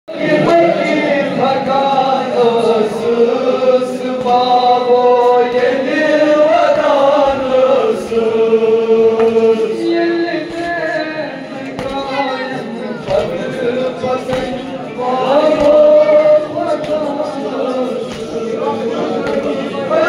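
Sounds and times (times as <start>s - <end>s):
men chanting a lament: 0.1s - 20.0s.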